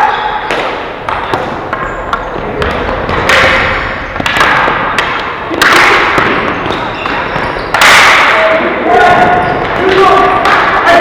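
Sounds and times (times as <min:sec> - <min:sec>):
hockey sticks clacking on ball: 0:00.0 - 0:11.0.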